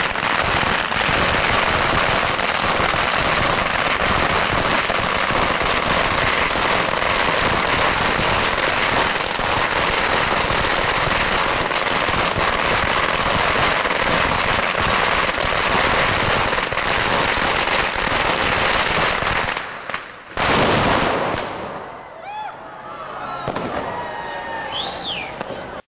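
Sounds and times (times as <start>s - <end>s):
firecrackers banging: 0.0s - 22.0s, 23.4s - 24.1s.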